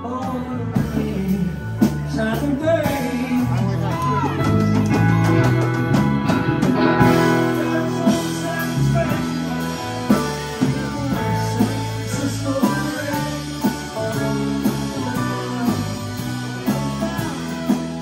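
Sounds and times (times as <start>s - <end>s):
drum kit: 0.0s - 18.0s
electric bass: 0.0s - 18.0s
electric guitar: 0.0s - 18.0s
keyboard: 0.0s - 18.0s.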